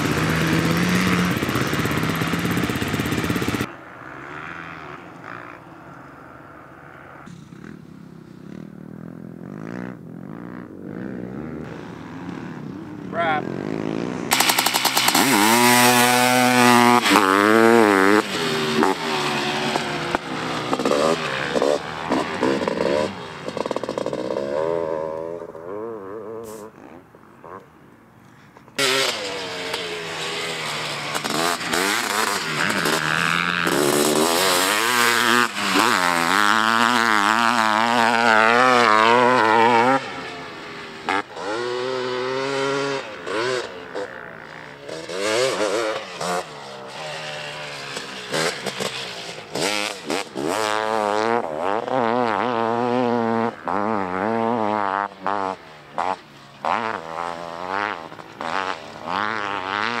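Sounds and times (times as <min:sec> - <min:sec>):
two-stroke motorcycle engine revving: 0:00.0 - 0:27.8, 0:28.7 - 1:00.0.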